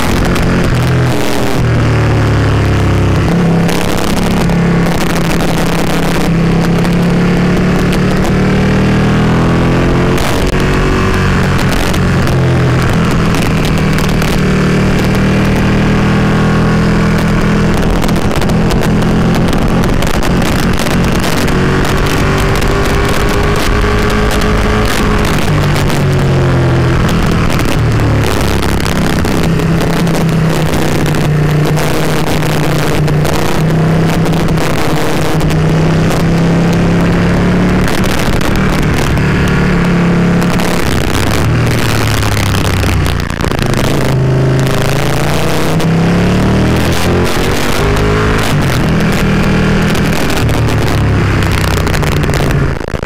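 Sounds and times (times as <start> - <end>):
motorcycle engine while riding: 0.0 - 53.0
wind buffeting microphone: 0.0 - 53.0.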